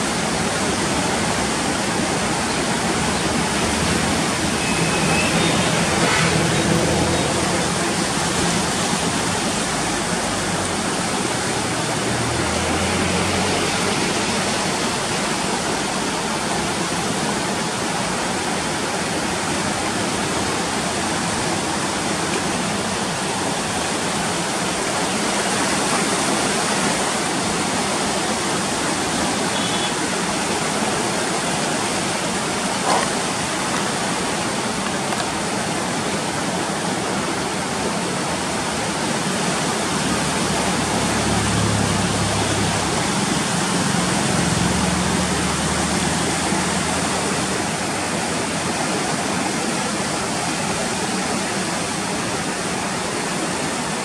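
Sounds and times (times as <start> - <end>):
flood water rushing: 0.0 - 54.0.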